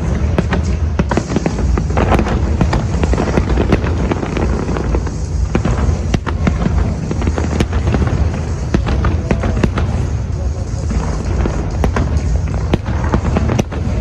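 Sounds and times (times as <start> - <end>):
continuous low rumble: 0.0 - 14.0
fireworks cracks and bangs: 0.0 - 14.0.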